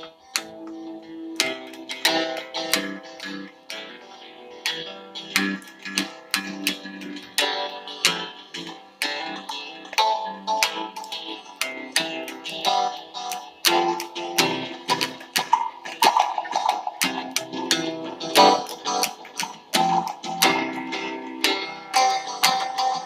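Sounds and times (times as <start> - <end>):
guitar strumming chords: 0.0 - 23.0.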